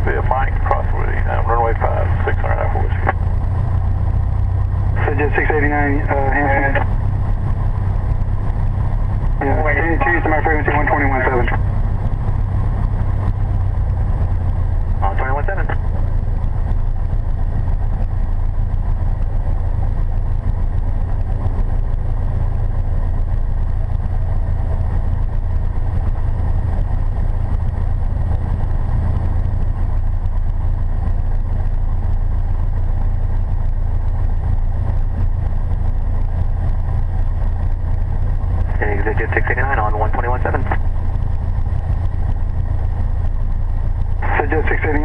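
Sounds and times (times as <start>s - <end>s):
light airplane engine droning: 0.0s - 45.0s.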